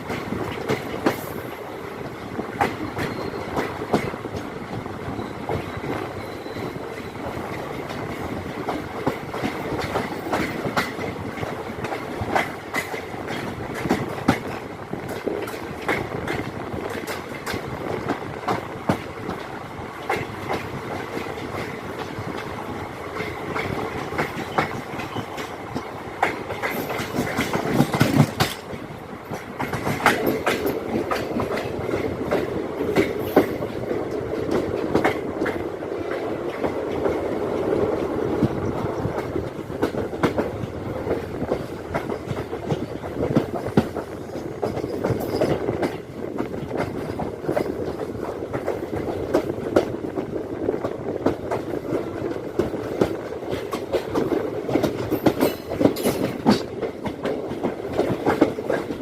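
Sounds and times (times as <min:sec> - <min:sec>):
train rumble: 0:00.0 - 0:59.0
train wheels clattering over rail joints: 0:00.0 - 0:59.0.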